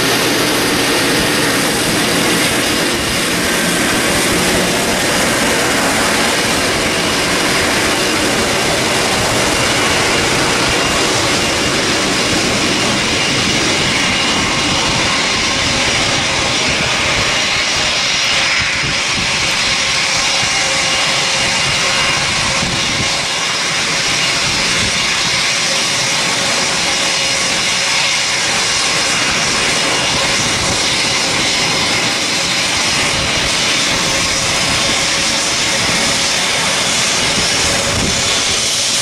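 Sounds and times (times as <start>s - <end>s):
jet engines rushing: 0.0s - 39.0s.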